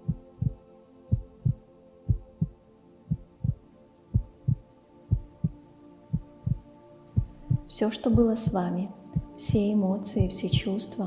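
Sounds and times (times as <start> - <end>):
heartbeat thumps: 0.0 - 3.6, 4.2 - 8.6, 9.2 - 9.6, 10.2 - 10.7.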